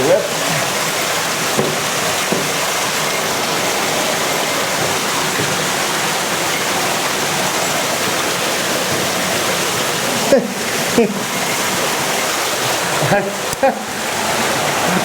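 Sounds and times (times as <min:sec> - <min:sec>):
stream and waterfall rushing: 0:00.0 - 0:15.0.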